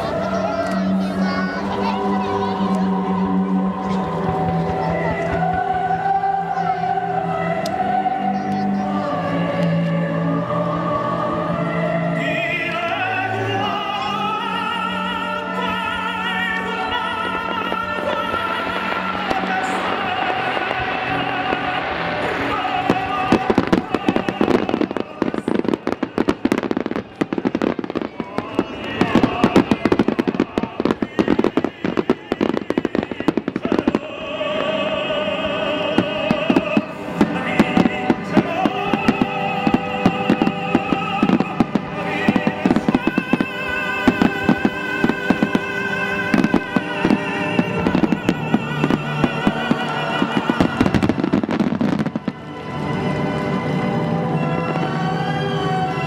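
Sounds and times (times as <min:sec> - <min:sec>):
fireworks bursting: 0:00.0 - 0:56.0
operatic singer with vibrato: 0:00.0 - 0:56.0
orchestral accompaniment: 0:00.0 - 0:56.0.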